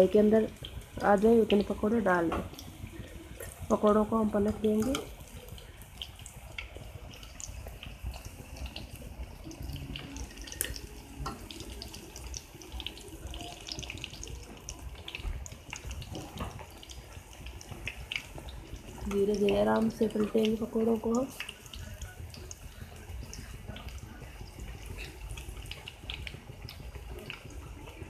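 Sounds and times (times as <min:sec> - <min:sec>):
deep-frying in hot oil: 0:00.0 - 0:28.0.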